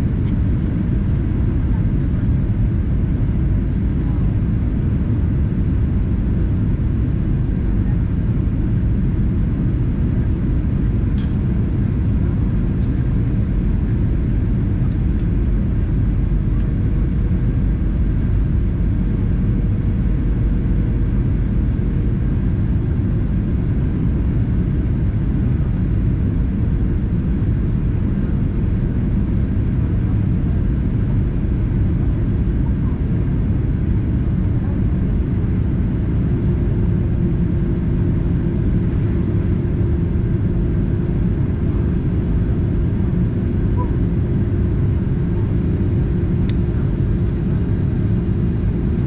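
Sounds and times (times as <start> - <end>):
airplane cabin rumble: 0.0 - 49.0.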